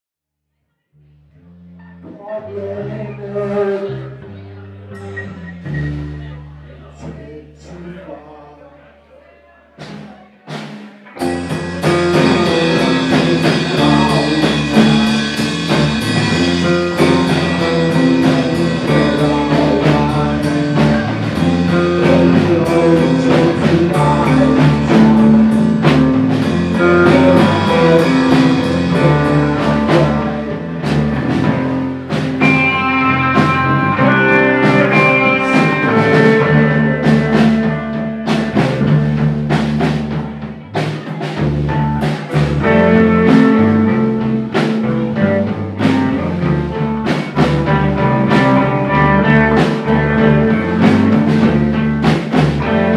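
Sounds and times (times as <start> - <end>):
live rock band playing: 1.7 - 7.2, 9.8 - 52.9.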